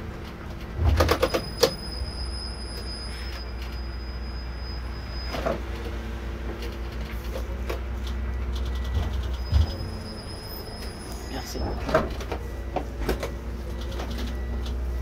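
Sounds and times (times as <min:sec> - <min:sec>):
coach engine rumble: 0:00.0 - 0:15.0.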